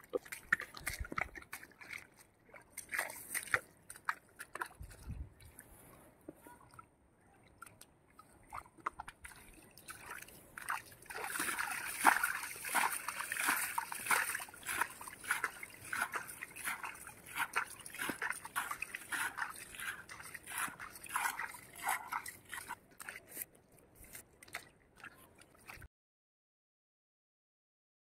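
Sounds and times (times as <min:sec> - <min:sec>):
pond water sloshing and splashing: 0:00.0 - 0:25.9.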